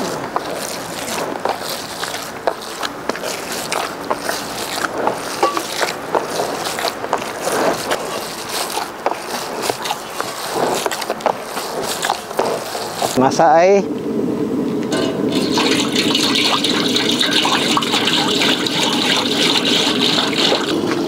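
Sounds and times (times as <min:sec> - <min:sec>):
meat mixture squishing by hand: 0:00.0 - 0:13.4, 0:15.3 - 0:21.0.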